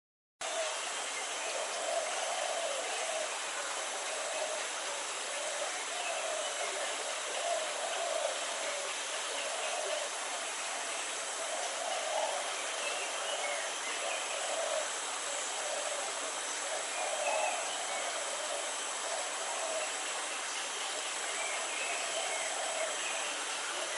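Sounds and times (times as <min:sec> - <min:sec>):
outdoor background hiss: 0:00.4 - 0:23.9.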